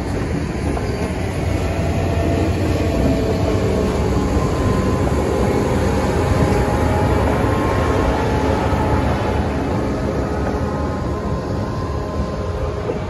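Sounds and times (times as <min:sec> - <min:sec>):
diesel locomotive engine: 0:00.0 - 0:13.0
train wheels rumbling on rails: 0:00.0 - 0:13.0.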